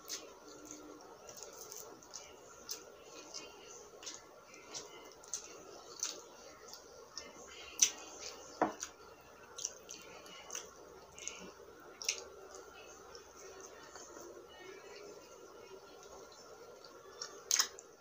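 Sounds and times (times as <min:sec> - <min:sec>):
wet chewing: 0:00.0 - 0:14.2, 0:16.0 - 0:17.9.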